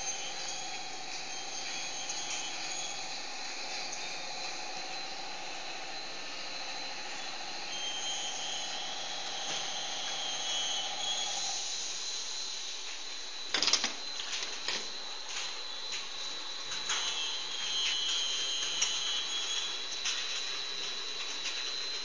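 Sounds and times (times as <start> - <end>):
roll forming machine humming: 0.0 - 22.0.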